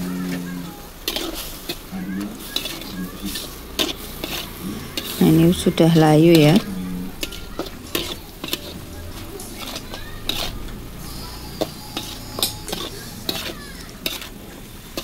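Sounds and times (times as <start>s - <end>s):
metal spatula scraping a wok: 0.0s - 15.0s.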